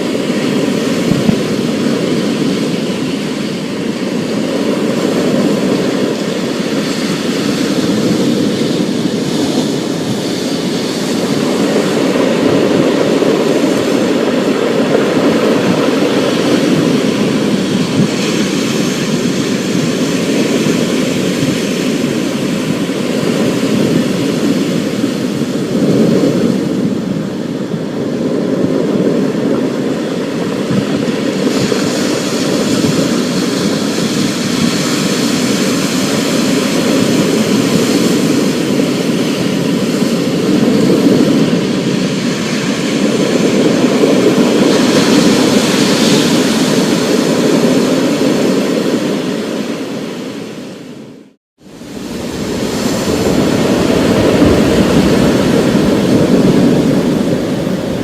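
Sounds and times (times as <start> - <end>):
storm rushing roar: 0.0 - 58.0.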